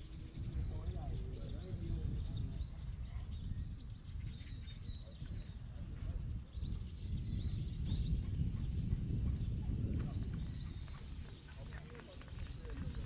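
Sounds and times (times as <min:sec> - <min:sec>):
small bird chirping: 0:00.0 - 0:13.0
wind rumble on microphone: 0:00.0 - 0:13.0.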